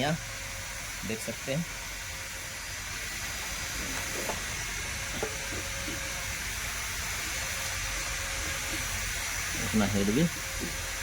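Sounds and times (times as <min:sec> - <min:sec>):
steady hissing noise: 0:00.0 - 0:11.0.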